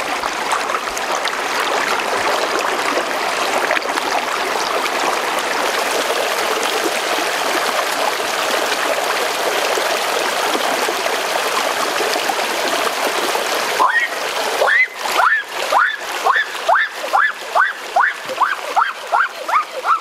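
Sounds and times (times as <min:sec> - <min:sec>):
stream rushing over stones: 0:00.0 - 0:20.0.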